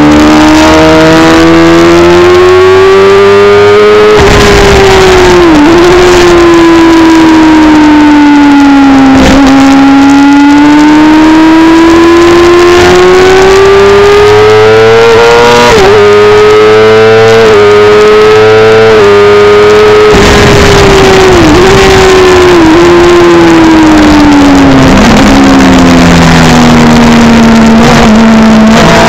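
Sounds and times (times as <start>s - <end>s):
motorcycle engine at high revs: 0.0s - 29.0s.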